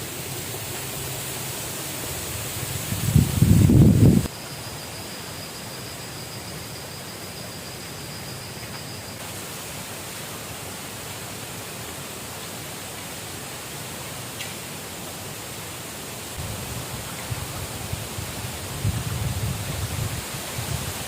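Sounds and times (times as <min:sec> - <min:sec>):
river water rushing: 0:00.0 - 0:05.1, 0:09.1 - 0:21.0.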